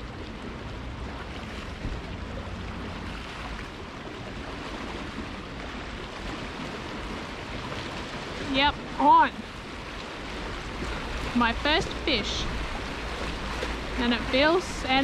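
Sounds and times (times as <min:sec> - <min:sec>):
waves washing on rocks: 0:00.0 - 0:15.0
wind rumbling on microphone: 0:00.0 - 0:15.0.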